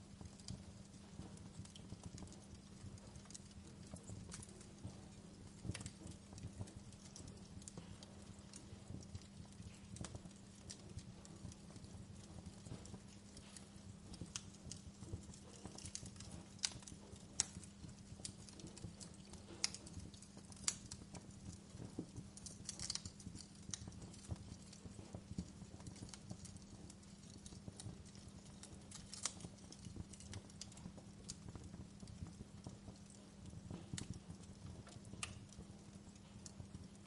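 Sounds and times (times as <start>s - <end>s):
faint steady hum: 0.0s - 37.0s
wood fire crackling: 0.0s - 37.0s.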